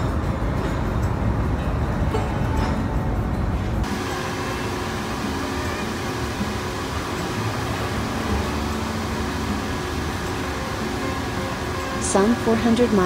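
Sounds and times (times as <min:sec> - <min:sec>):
deck machinery running: 0:00.0 - 0:13.0
faint mechanical hum: 0:00.0 - 0:13.0.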